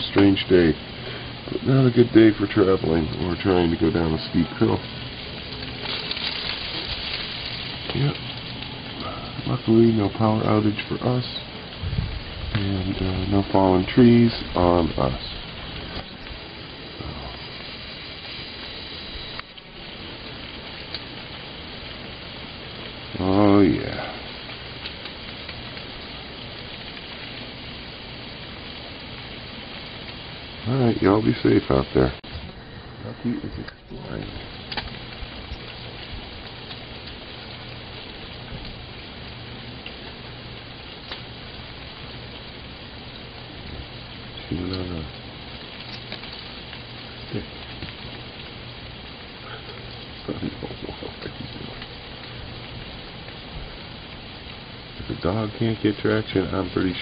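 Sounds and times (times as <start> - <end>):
meltwater dripping from trees: 0.0 - 57.0.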